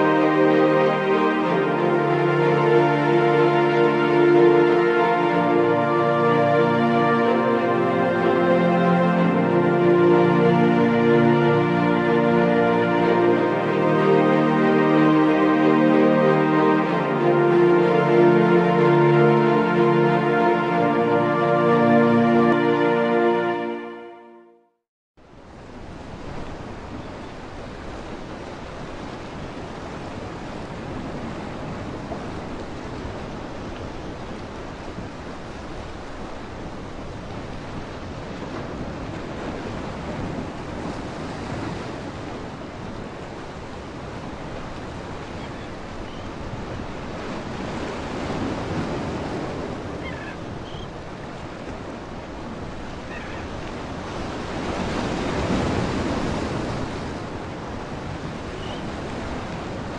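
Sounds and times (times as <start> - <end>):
rushing water: 0.0 - 24.0, 25.2 - 59.9
wind: 0.0 - 24.1, 25.2 - 59.9.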